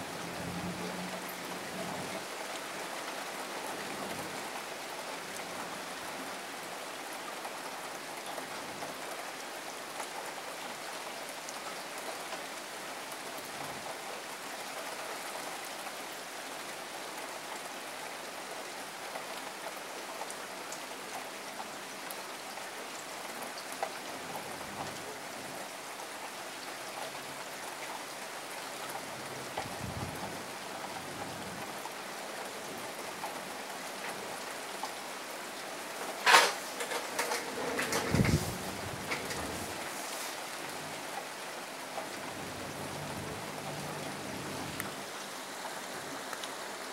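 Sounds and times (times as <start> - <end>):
steady rain pattering: 0.0 - 46.9.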